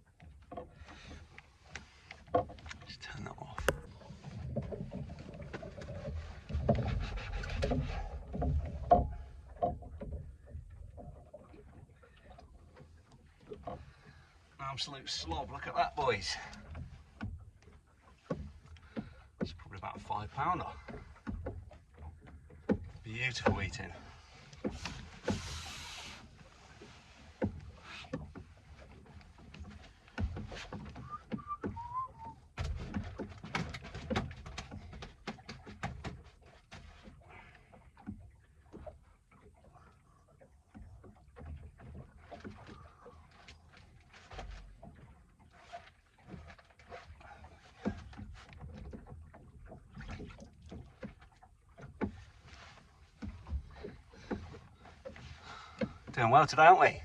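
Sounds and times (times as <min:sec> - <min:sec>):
knocks and bumps in boat: 0:00.0 - 0:57.0.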